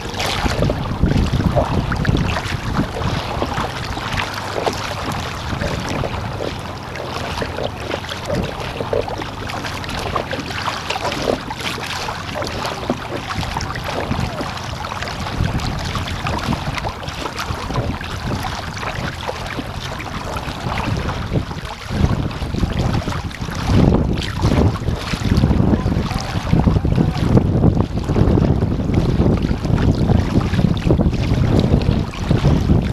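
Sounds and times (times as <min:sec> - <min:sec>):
water splashing against hull: 0:00.0 - 0:32.9
wind buffeting microphone: 0:00.0 - 0:32.9.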